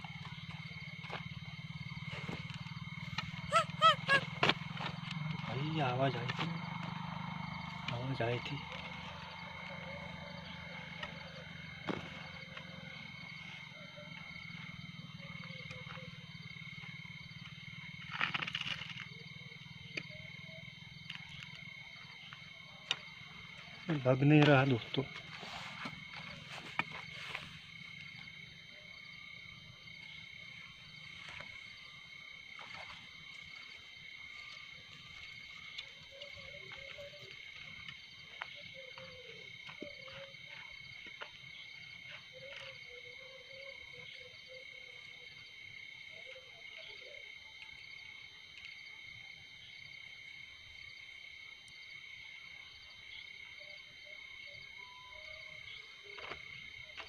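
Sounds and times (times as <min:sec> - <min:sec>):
frogs croaking: 0:00.0 - 0:57.0
insects trilling: 0:00.0 - 0:57.0.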